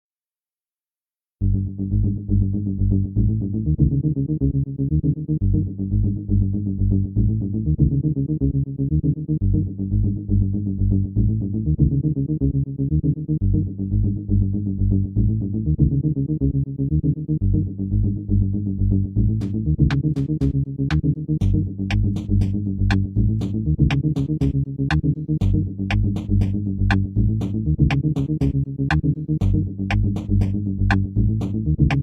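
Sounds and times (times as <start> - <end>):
electronic music with bass: 1.4 - 32.0.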